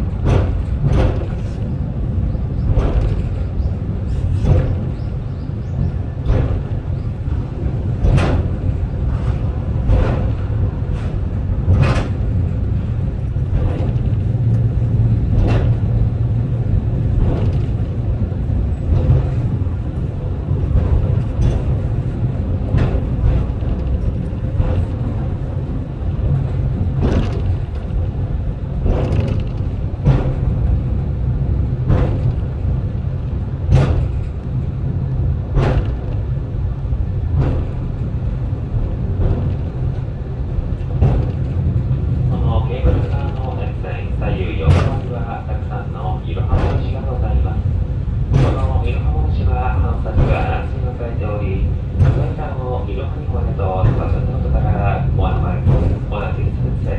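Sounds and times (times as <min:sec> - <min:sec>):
cable car rumbling on rails: 0:00.0 - 0:56.9.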